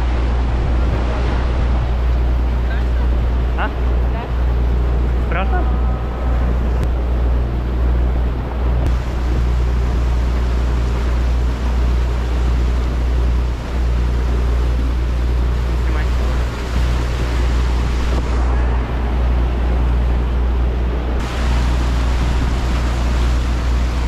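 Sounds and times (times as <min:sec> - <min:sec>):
motorboat engine rumbling: 0:00.0 - 0:24.0
wind and water rushing: 0:00.0 - 0:24.0.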